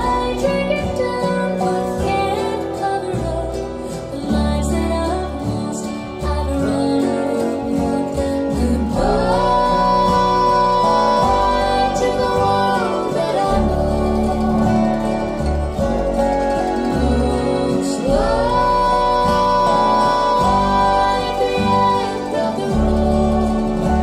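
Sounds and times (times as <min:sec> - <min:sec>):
guitar and bass: 0:00.0 - 0:24.0
woman singing country song: 0:00.0 - 0:24.0.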